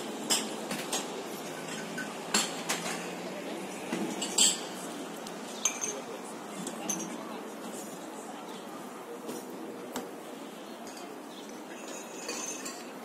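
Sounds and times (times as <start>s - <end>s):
murmur of distant voices: 0.0s - 13.0s.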